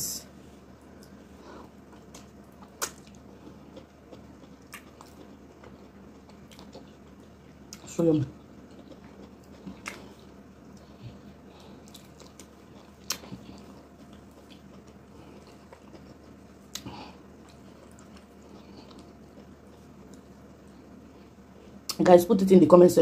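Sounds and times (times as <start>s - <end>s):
chewing and wet mouth sounds: 0.8s - 22.0s.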